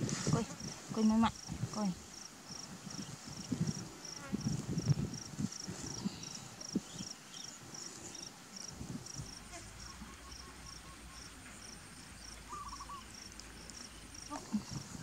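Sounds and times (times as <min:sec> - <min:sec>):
insect chirping in pulses: 0:00.4 - 0:15.0.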